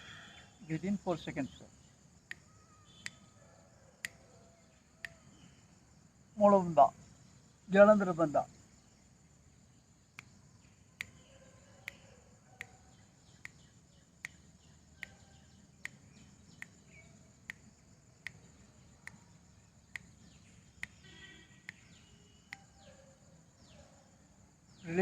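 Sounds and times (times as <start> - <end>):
faint bird chirps: 0.0 - 25.0
high insect trill: 0.0 - 25.0.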